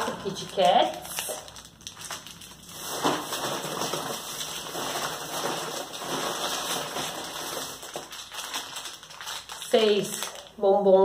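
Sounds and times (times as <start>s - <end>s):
plastic bag rustling: 0.0s - 10.5s.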